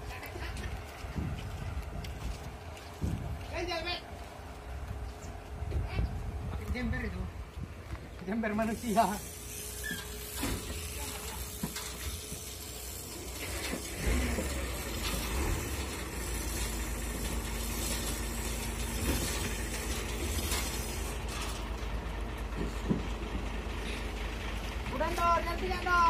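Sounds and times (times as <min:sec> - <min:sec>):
truck engine rumbling: 0:00.0 - 0:26.0.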